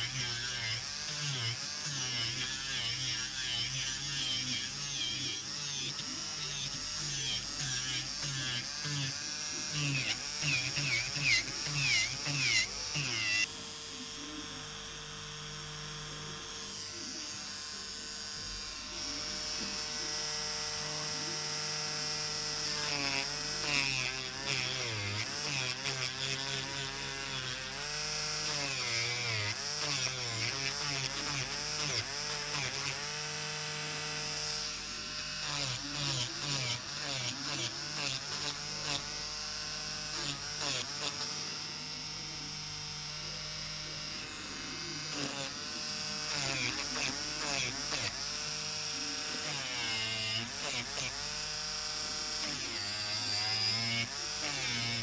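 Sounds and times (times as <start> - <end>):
electric nail drill whining: 0.0 - 55.0.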